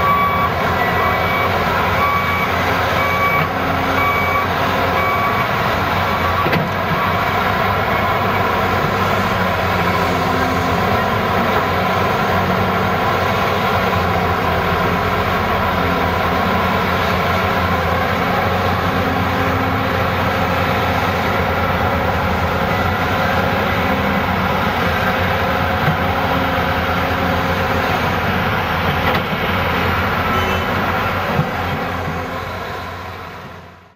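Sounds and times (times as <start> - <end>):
excavator diesel engine: 0.0 - 33.9.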